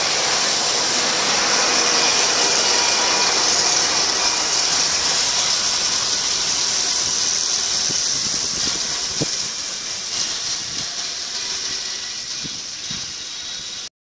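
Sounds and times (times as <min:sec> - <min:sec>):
disc mower whining: 0:00.0 - 0:13.9
tractor engine: 0:00.0 - 0:13.9.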